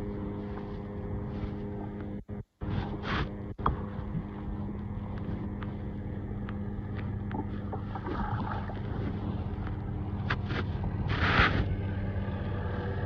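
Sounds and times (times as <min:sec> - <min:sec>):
low engine-like hum: 0:00.0 - 0:13.0
water lapping around a kayak: 0:00.0 - 0:13.0.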